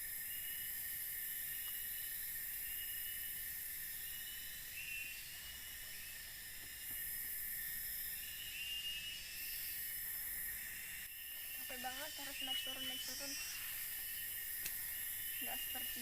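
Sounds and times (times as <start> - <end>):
insects buzzing and shrilling: 0.0 - 16.0
short insect chirps: 0.0 - 16.0.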